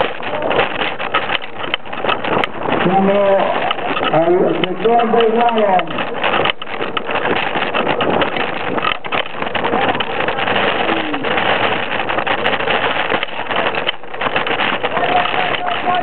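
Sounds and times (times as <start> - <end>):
wheels rumbling with clicks: 0.0 - 16.0
wind buffeting microphone: 0.0 - 16.0.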